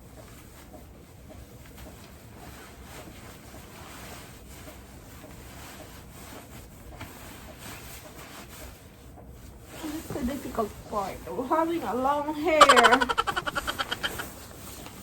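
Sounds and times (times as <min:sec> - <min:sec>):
fabric rustling and swishing: 0:00.2 - 0:12.8.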